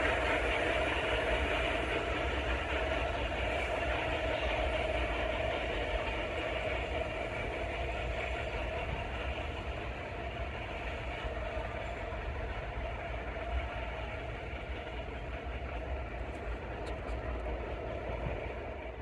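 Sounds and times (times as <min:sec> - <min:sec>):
subway train wheels on rails: 0:00.0 - 0:19.0.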